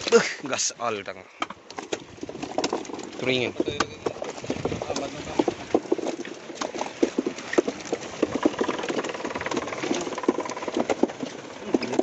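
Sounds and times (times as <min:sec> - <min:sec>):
fish slapping on wet deck: 0:01.7 - 0:12.0.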